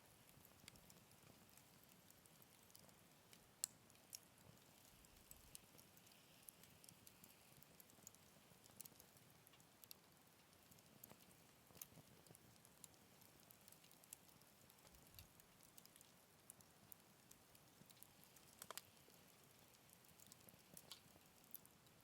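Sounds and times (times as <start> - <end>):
faint low hiss: 0.0 - 22.0
wood fire crackling: 0.0 - 22.0.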